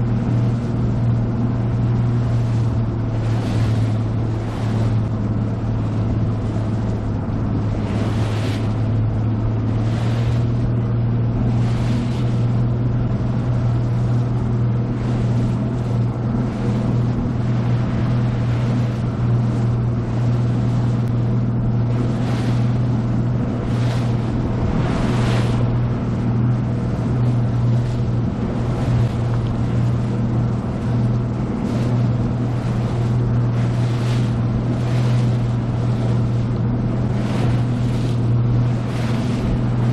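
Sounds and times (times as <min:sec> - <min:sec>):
hull slapping through waves: 0:00.0 - 0:39.9
outboard motor droning: 0:00.0 - 0:39.9.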